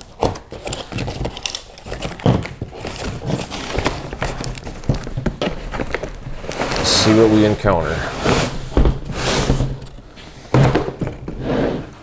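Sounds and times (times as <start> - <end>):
cardboard tearing and crinkling: 0.0 - 10.0.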